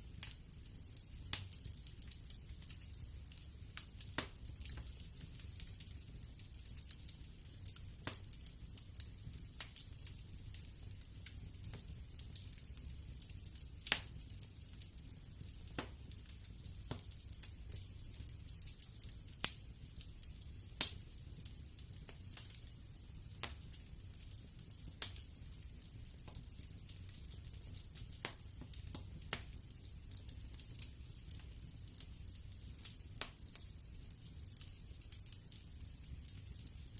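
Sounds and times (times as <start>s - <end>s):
wood fire crackling and popping: 0.0s - 36.9s.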